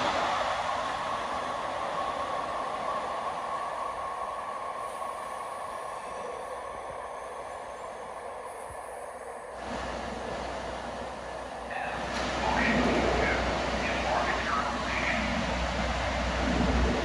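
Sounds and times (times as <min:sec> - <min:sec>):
train rolling and slowing: 0:00.0 - 0:17.0.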